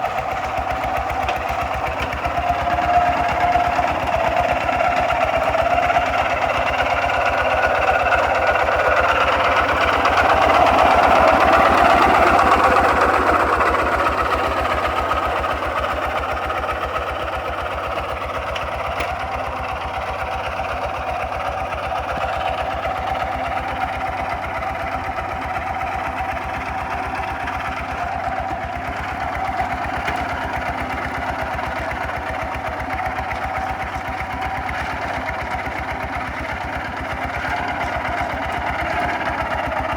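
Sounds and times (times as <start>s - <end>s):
diesel walking tractor chugging: 0.0s - 39.9s.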